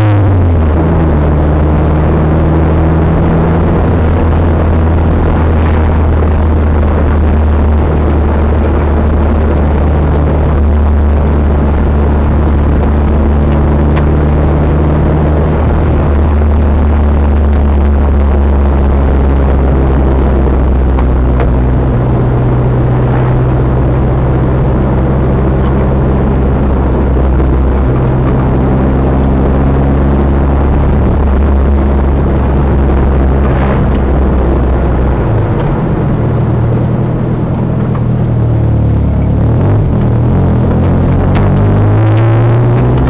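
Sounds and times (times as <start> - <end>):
car engine from inside cabin: 0.0 - 43.0.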